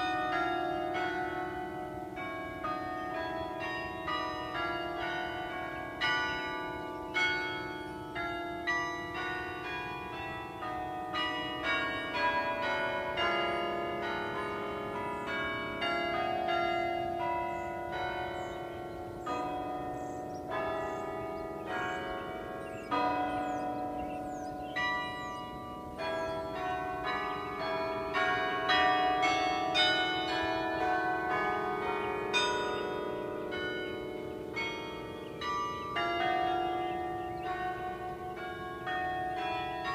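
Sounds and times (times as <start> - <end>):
carillon bells playing melody: 0.0 - 39.9.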